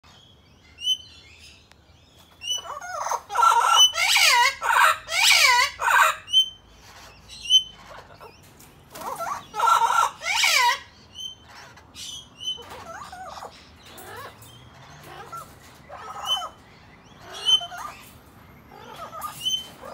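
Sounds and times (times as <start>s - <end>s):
parrots squawking: 2.4s - 19.9s.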